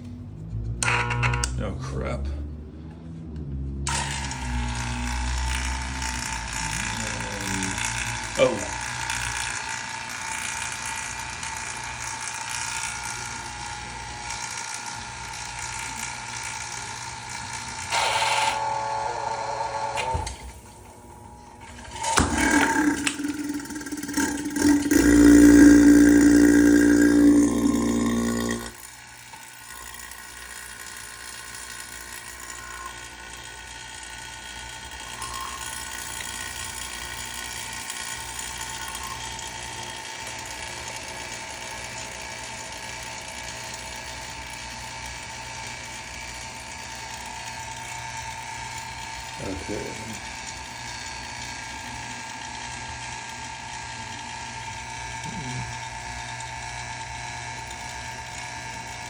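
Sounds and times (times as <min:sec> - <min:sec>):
loud motor hum: 0:00.0 - 0:59.0
pump whirring with thin whine: 0:03.8 - 0:59.0.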